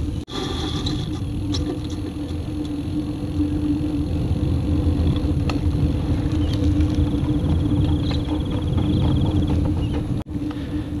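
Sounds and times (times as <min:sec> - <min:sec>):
steady hum: 0:00.0 - 0:11.0
tyres rolling on asphalt: 0:00.1 - 0:10.8
wind on microphone: 0:00.7 - 0:10.3.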